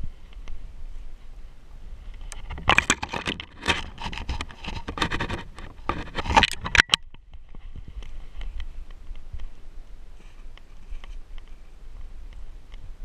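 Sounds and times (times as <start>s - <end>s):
twigs scraping and crackling: 2.0s - 12.9s.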